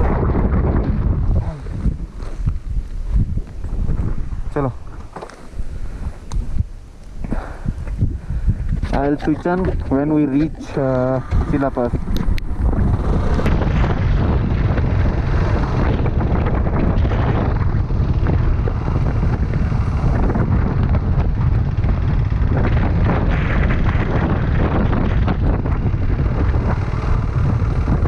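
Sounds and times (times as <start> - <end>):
motorcycle engine and road noise: 0.0 - 28.0
wind buffeting microphone: 0.0 - 28.0.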